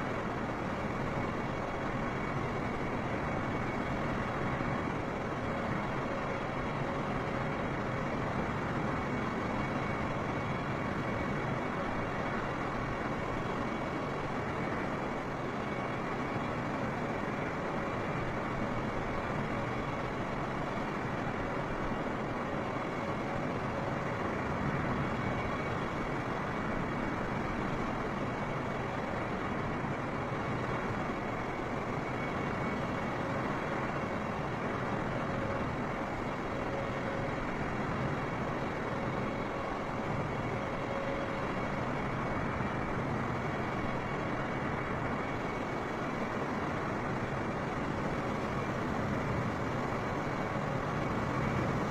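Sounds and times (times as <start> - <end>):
jet airliner engine rush: 0.0 - 51.9.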